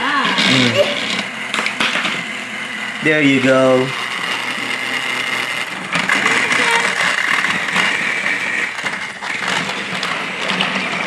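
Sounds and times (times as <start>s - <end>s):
toy train motor whir: 0.0s - 11.0s.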